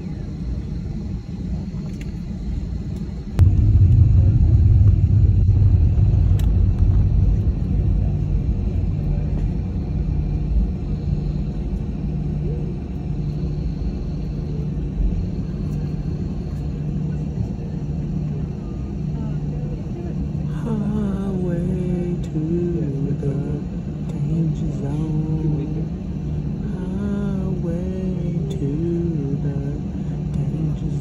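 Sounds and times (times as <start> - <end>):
airliner engines taxiing: 0.0 - 31.0
steady low hum: 0.0 - 31.0.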